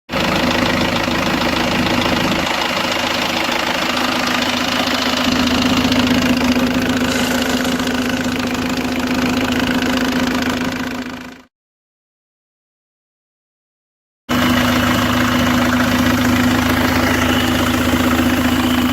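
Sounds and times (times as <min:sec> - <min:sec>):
diesel engine idling: 0:00.1 - 0:11.5, 0:14.3 - 0:18.9.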